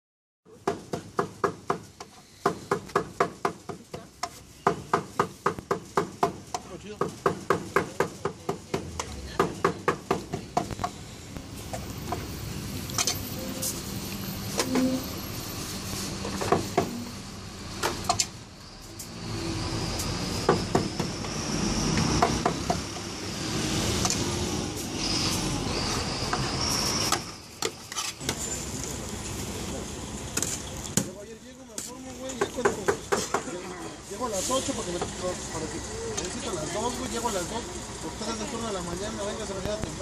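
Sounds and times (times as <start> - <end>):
street traffic passing: 0.7 - 40.0.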